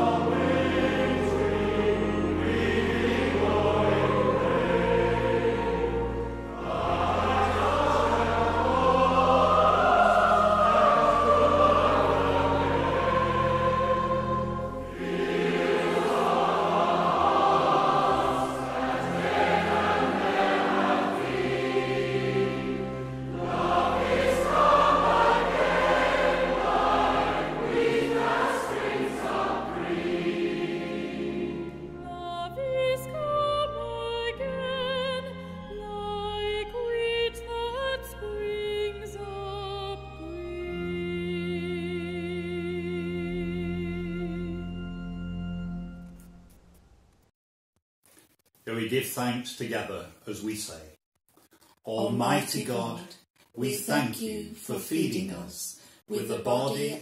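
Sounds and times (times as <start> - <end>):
choir singing: 0.0 - 45.8.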